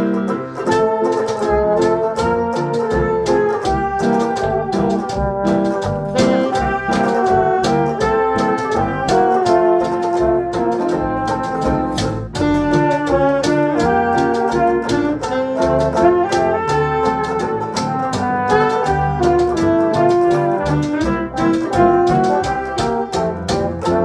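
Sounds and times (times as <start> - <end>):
brass instruments playing melody: 0.0 - 24.0
steady jazz beat: 0.0 - 24.0.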